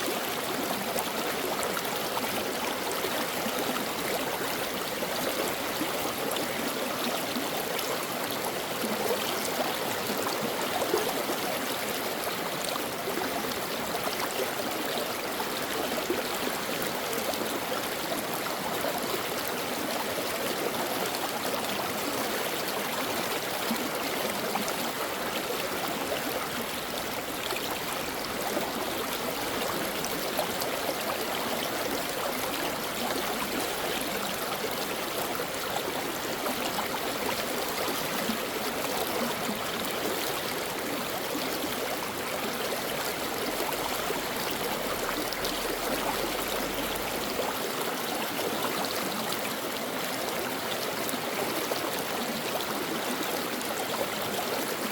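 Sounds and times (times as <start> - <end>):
brook water babbling: 0.0 - 54.9.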